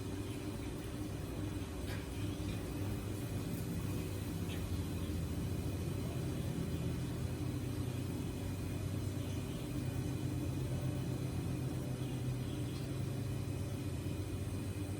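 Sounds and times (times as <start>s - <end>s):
low machine hum: 0.0s - 14.9s.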